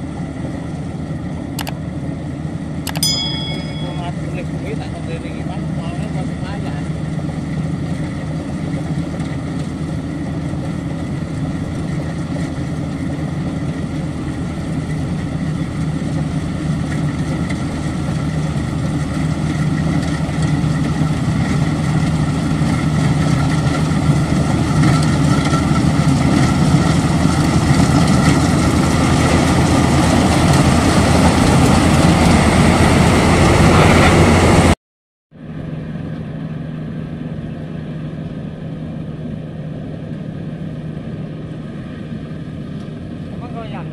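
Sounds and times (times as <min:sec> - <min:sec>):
combine harvester engine running: 0:00.0 - 0:34.7, 0:35.4 - 0:43.9.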